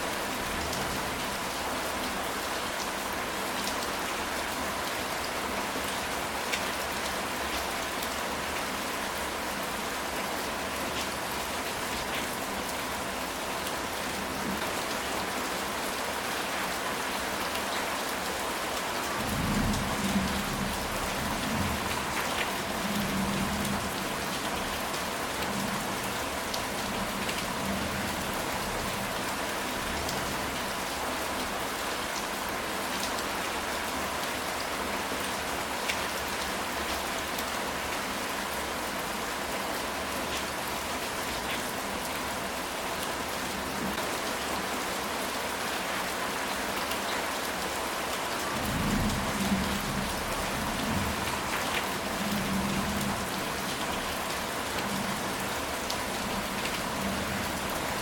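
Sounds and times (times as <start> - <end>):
rain on a tile roof: 0.0 - 58.0.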